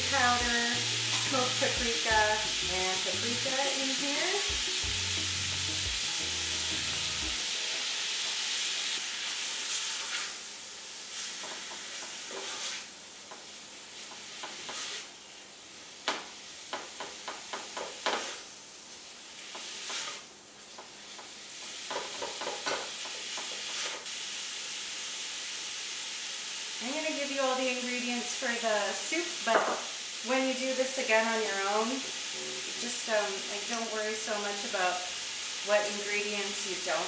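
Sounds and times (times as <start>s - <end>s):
meat sizzling in a pot: 0.0s - 37.0s.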